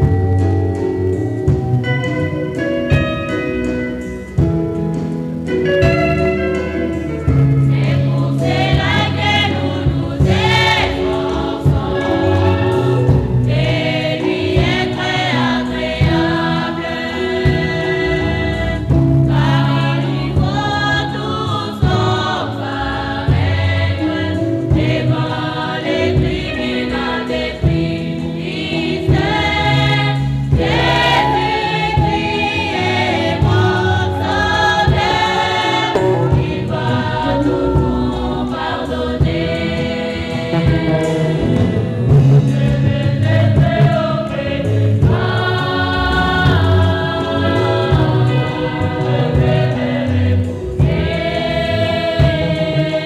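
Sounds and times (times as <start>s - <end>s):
choir singing gospel song: 0.0s - 53.0s
low musical accompaniment: 0.0s - 53.0s.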